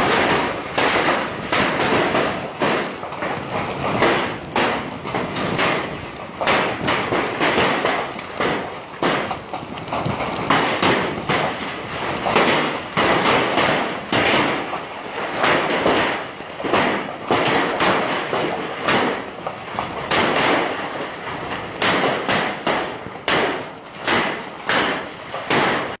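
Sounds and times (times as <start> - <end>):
steady rushing roar: 0.0 - 23.9
hailstones clattering: 0.0 - 26.0.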